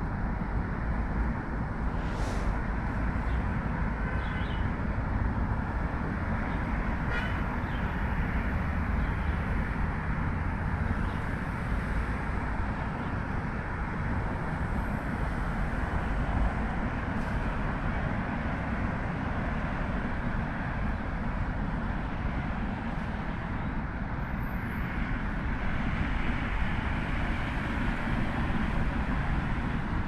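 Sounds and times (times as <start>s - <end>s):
busy road traffic: 0.0s - 30.0s.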